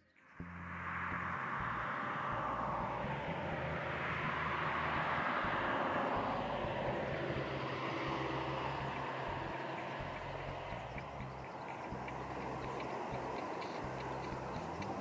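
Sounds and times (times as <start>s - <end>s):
distant aircraft passing overhead: 0.4s - 15.0s.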